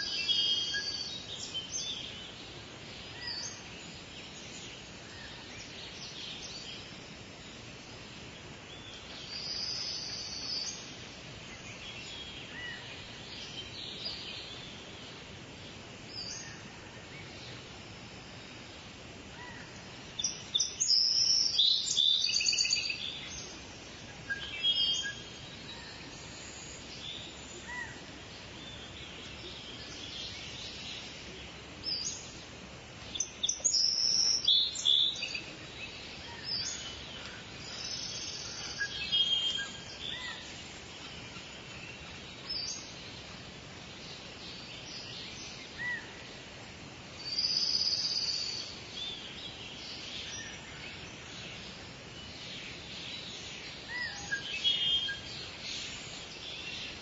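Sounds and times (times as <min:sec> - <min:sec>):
outdoor background hiss: 0:00.0 - 0:57.0
songbirds singing and chirping: 0:00.0 - 0:57.0.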